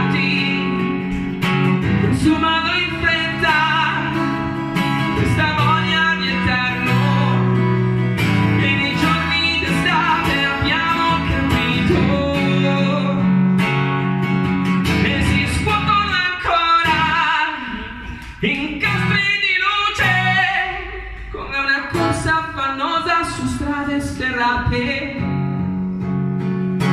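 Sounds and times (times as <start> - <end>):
man singing: 0.0 - 14.0, 14.7 - 25.8
acoustic guitar strumming: 0.0 - 26.9.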